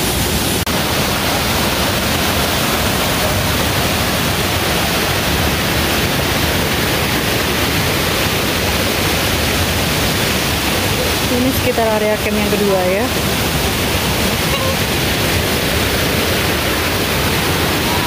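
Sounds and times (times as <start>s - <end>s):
stream rushing over cascades: 0.0s - 18.0s.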